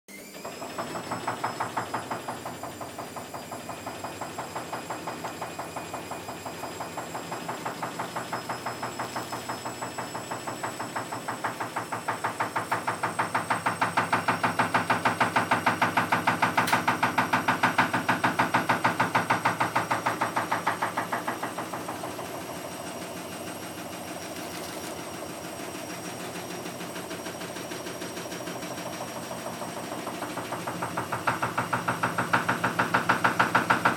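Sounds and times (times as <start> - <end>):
washing machine drum knocking: 0.6 - 24.4, 25.1 - 33.9.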